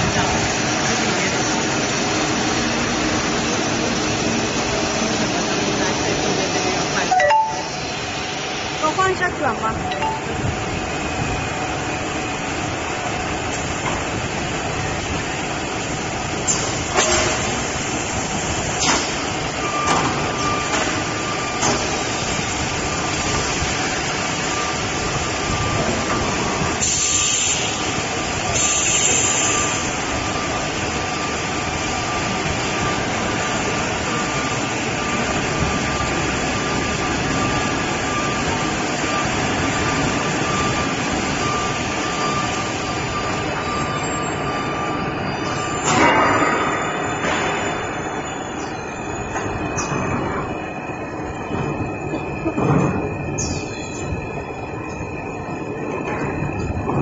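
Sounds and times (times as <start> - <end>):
machine drone with thin whine: 0.0 - 57.0.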